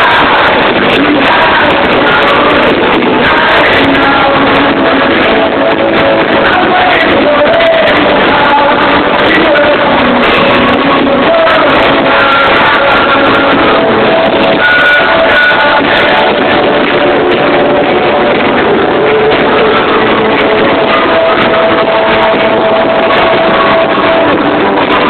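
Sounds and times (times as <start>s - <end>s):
rock song with vocals and guitars: 0.0s - 25.0s.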